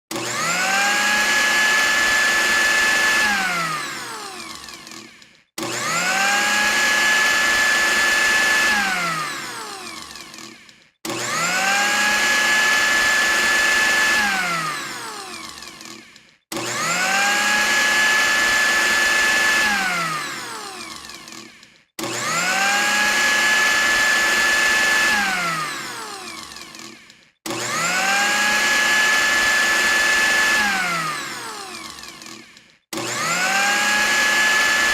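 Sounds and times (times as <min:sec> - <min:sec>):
electric blender motor whining: 0:00.1 - 0:34.9.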